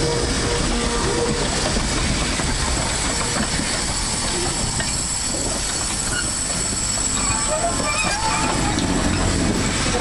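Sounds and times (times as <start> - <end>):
steam locomotive running: 0.0 - 10.0.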